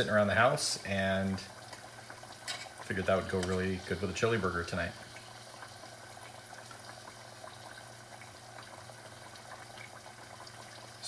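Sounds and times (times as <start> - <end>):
fries sizzling in oil: 0.0 - 11.0.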